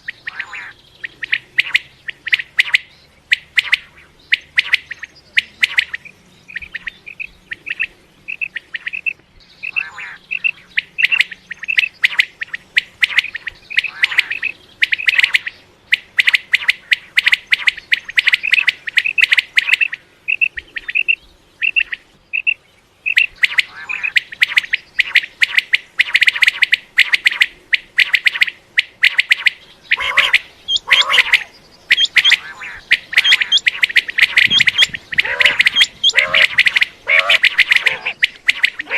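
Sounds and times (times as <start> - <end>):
lower rough bird calls: 0.0 - 38.9
quail calling: 0.0 - 38.9.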